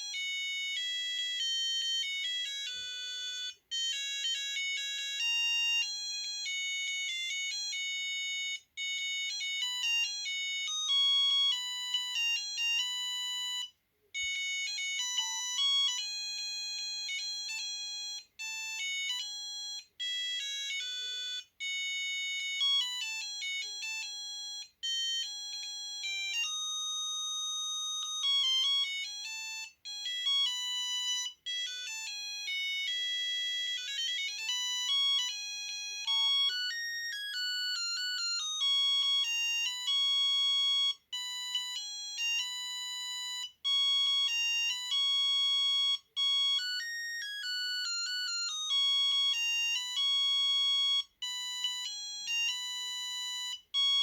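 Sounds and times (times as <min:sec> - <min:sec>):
mobile phone ringtone beeping melodies: 0:00.0 - 0:54.0.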